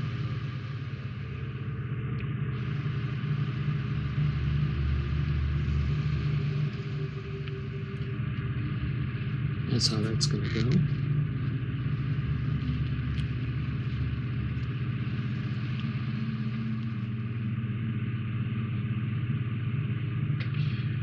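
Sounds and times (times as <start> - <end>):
low machine hum with hiss: 0.0 - 21.0.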